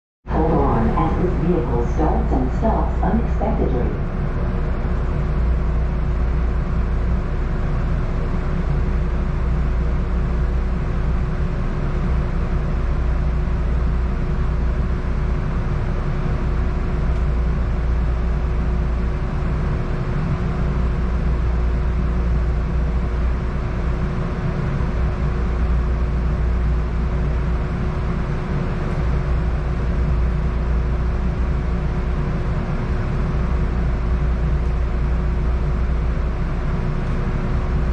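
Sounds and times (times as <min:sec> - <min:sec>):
streetcar cabin hum: 0:00.3 - 0:37.9.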